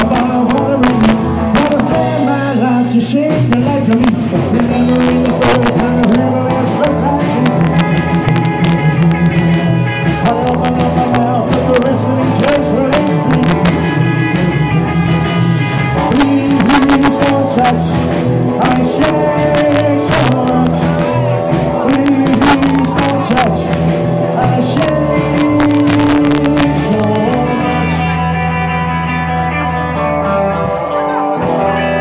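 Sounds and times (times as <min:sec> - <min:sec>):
drums beating: 0:00.0 - 0:32.0
rock band playing live: 0:00.0 - 0:32.0.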